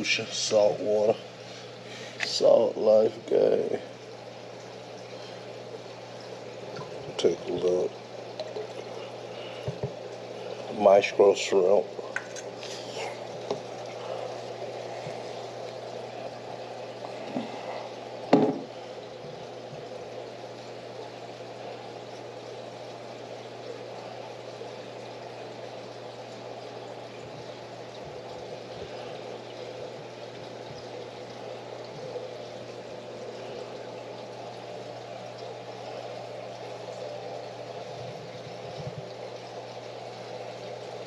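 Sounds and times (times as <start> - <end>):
aquarium water trickling and bubbling: 0.0 - 41.0
low pump hum: 0.0 - 41.0.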